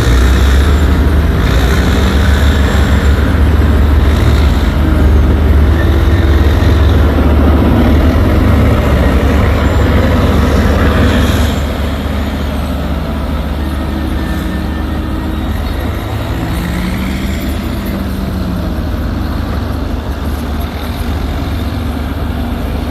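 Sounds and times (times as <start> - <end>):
diesel digger engine running: 0.0 - 22.9.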